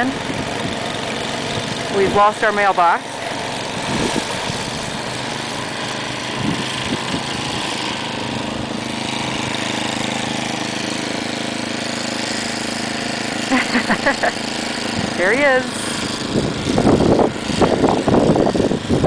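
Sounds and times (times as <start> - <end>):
snowblower engine droning: 0.0 - 19.0.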